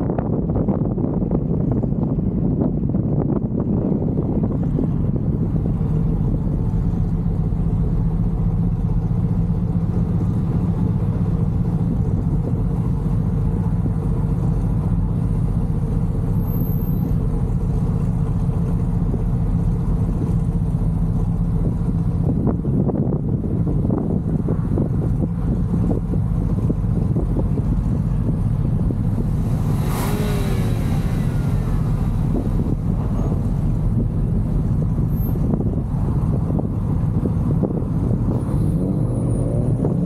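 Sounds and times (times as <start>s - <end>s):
car engine idling: 0.0s - 38.4s.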